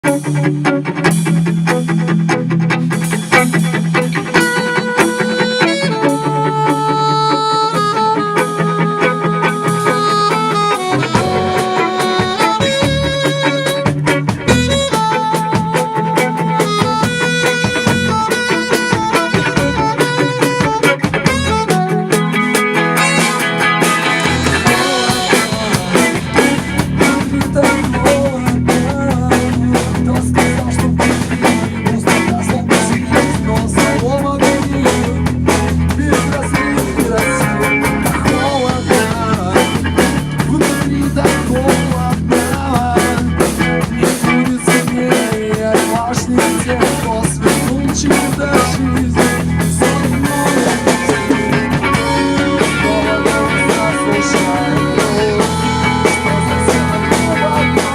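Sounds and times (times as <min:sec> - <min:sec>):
rock band playing: 0:00.0 - 0:57.9
snare and bass drum: 0:11.1 - 0:57.9.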